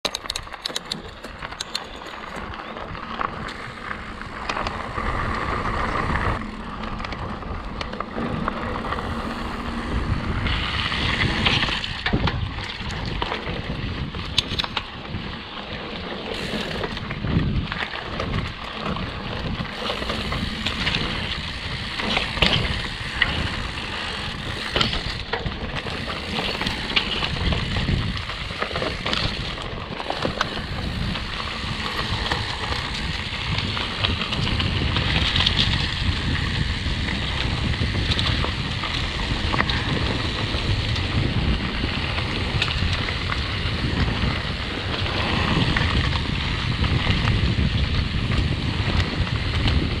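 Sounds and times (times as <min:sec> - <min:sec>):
bike knocks and rattles: 0:00.0 - 0:50.0
bike tyres crunching on gravel: 0:01.0 - 0:50.0.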